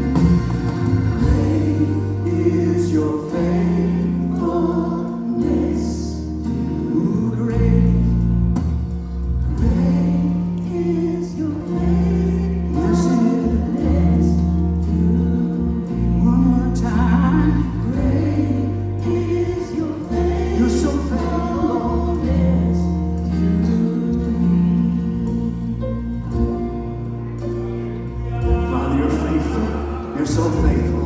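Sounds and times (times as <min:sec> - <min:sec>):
gospel choir singing: 0:00.0 - 0:08.8, 0:09.4 - 0:31.0
church band playing: 0:00.0 - 0:31.0.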